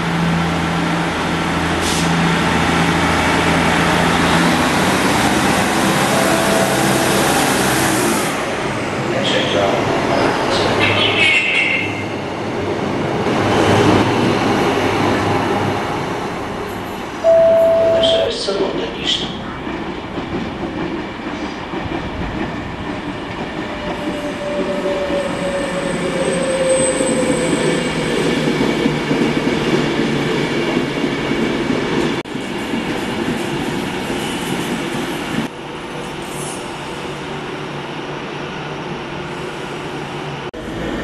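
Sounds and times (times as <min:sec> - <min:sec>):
train engine and wheel noise: 0:00.0 - 0:41.0.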